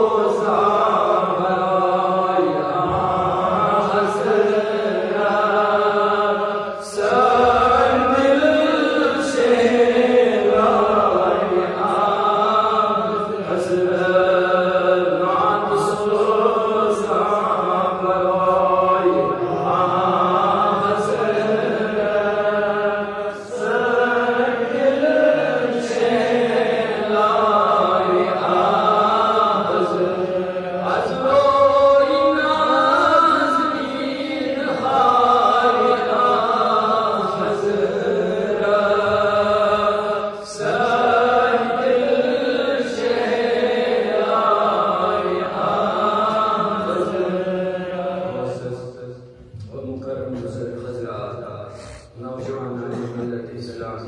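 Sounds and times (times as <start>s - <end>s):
man chanting into a microphone: 0.0s - 54.0s.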